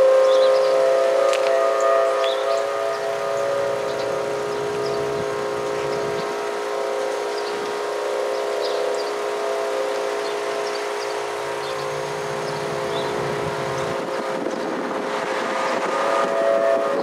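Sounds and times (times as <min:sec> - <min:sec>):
warning siren wailing: 0:00.0 - 0:17.0
passing car rumble: 0:00.3 - 0:17.0.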